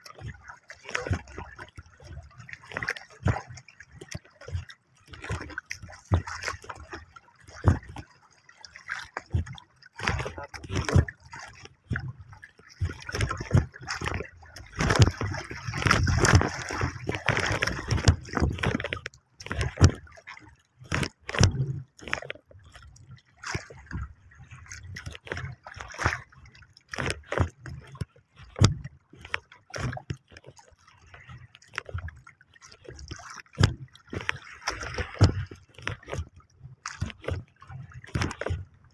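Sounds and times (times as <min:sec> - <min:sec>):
water slapping against canoe hull: 0:00.0 - 0:38.9.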